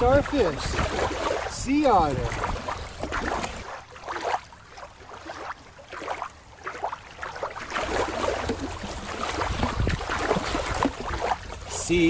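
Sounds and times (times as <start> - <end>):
water splashing around otter: 0.0 - 11.8
small waves lapping on rocks: 0.0 - 12.0.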